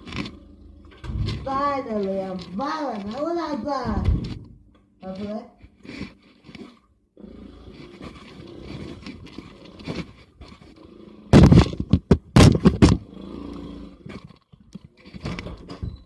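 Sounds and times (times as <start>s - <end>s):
hard objects scraping and clattering: 0.0s - 16.0s.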